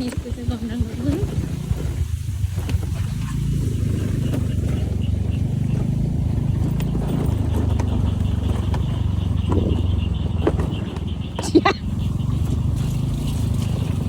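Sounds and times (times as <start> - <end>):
motor scooter engine running: 0.0 - 14.0.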